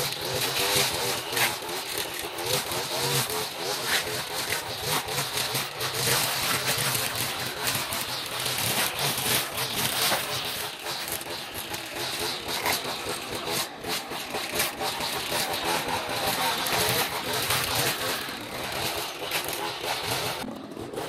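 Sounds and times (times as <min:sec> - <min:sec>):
strimmer engine running: 0:00.0 - 0:21.0
strimmer line ticking on stems: 0:00.0 - 0:21.0.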